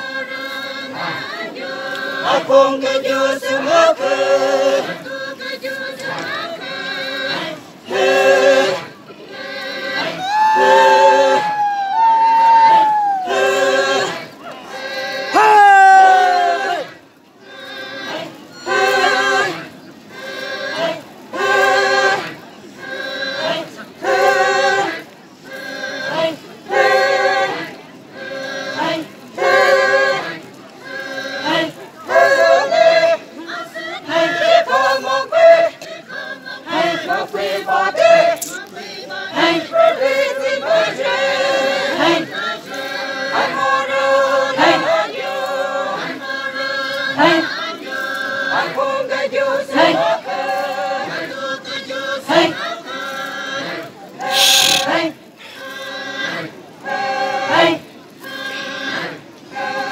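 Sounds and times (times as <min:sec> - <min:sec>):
women chanting in unison: 0:00.0 - 0:12.1, 0:12.7 - 0:59.9.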